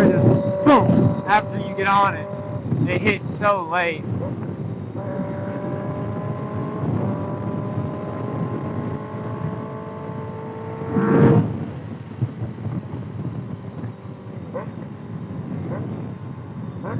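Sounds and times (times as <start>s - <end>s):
motorcycle engine through loud exhaust: 0.0s - 3.3s, 4.0s - 16.9s
wind noise on microphone: 0.0s - 16.9s.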